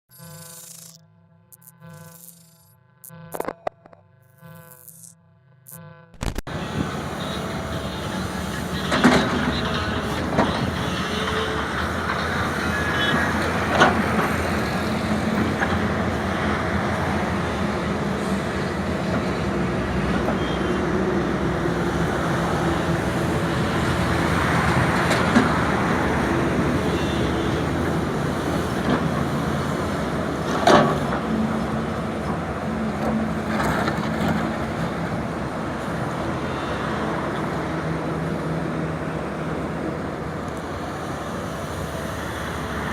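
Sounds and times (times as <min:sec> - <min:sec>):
excavator diesel engine running: 0:06.4 - 0:42.9.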